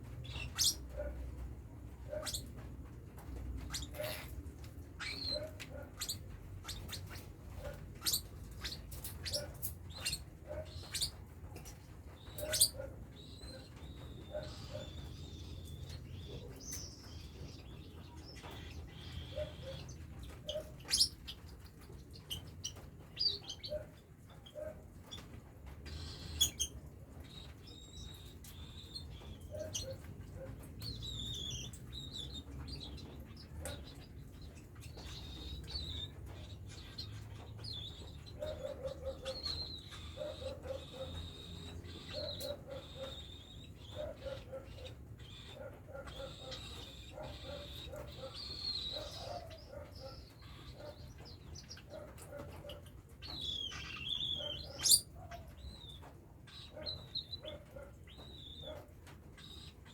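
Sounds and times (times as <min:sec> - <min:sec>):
cockatiels chirping: 0:00.1 - 0:59.9.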